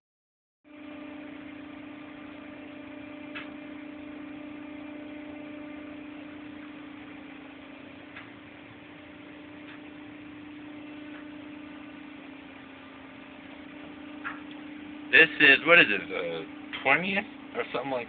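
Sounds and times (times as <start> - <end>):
machinery hum: 0.7 - 18.0.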